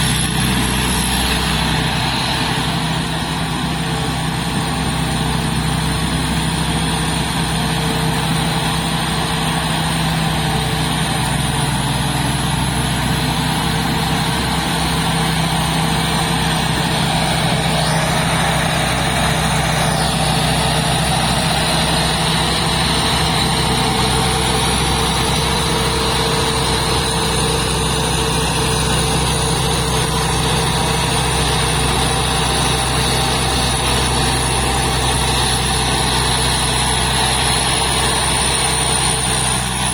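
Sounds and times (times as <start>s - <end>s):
diesel engine running: 0.0s - 39.9s
high steady whine: 0.0s - 39.9s.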